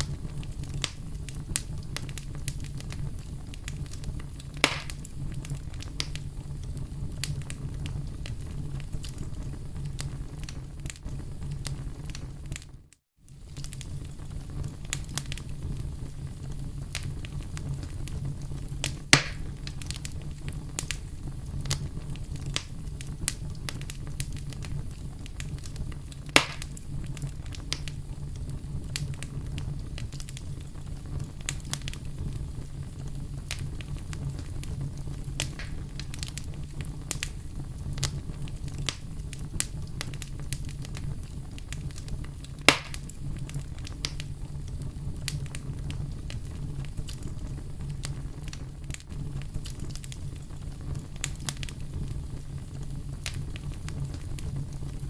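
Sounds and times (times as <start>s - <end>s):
low rumble of burning: 0.0s - 55.0s
wood fire crackling: 0.0s - 55.0s.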